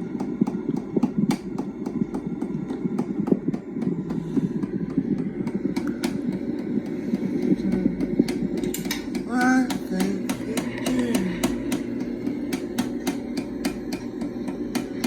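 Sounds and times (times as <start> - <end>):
ceiling fan rumble: 0.0 - 15.0.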